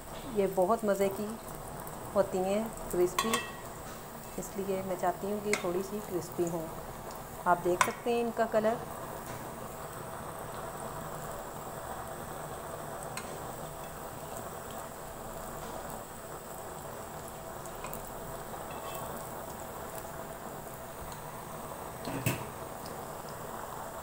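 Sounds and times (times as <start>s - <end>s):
food sizzling in hot oil: 0.0s - 24.0s
oil popping and crackling: 0.1s - 24.0s.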